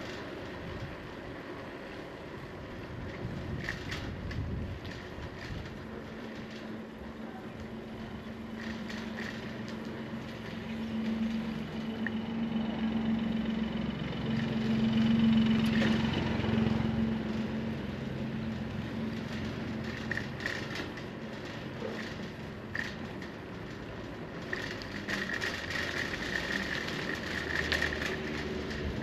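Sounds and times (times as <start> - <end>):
street noise: 0.0 - 29.0
vehicle engine humming: 0.0 - 29.0.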